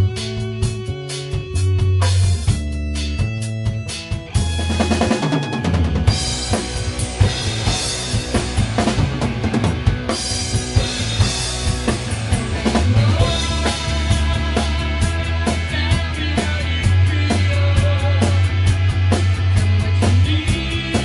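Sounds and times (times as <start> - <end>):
drum kit hits: 0.0 - 21.0
rock band playing live: 0.0 - 21.0.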